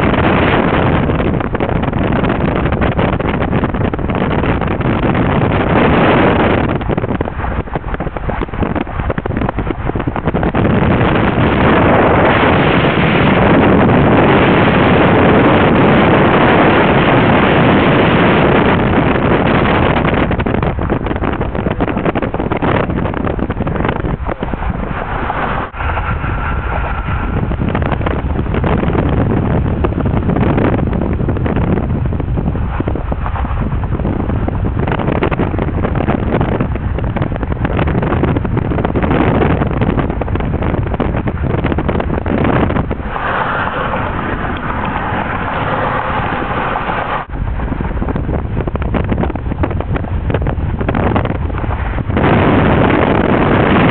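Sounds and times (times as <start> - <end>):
car road noise: 0.0 - 53.9
wind buffeting microphone: 0.0 - 53.9.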